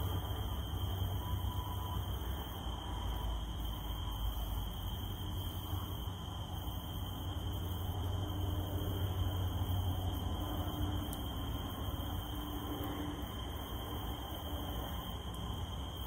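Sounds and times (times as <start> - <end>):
cicadas droning: 0.0 - 16.0
steady rain falling: 0.0 - 16.0.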